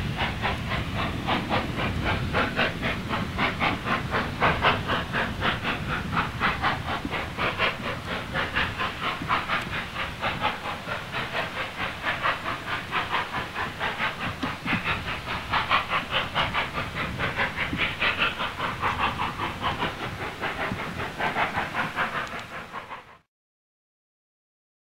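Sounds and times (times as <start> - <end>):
steam hiss: 0.0 - 23.3
steam locomotive exhaust beats: 0.0 - 23.3.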